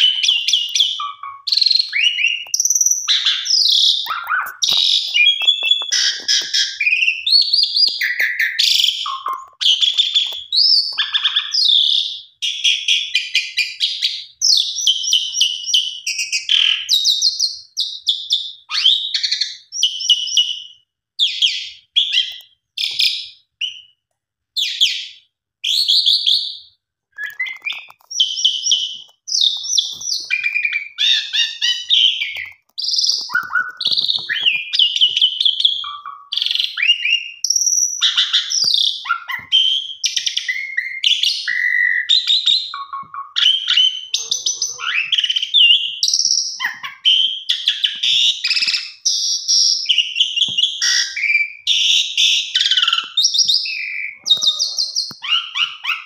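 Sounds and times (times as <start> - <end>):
starling singing: 0.0 - 24.0, 24.6 - 56.0.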